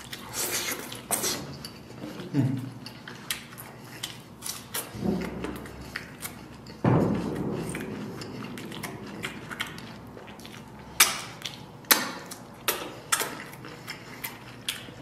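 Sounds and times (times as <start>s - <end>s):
person chewing: 0.0s - 15.0s
wet lip smacks: 0.0s - 15.0s.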